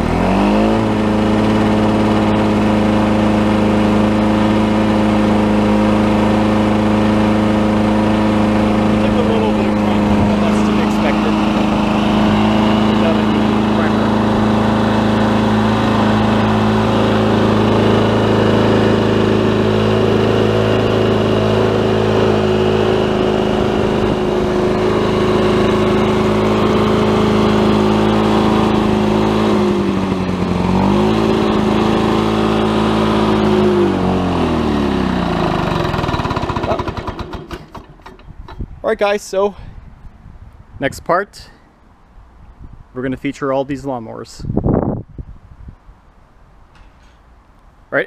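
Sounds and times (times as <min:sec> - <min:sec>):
two-stroke mower engine running: 0:00.0 - 0:38.8.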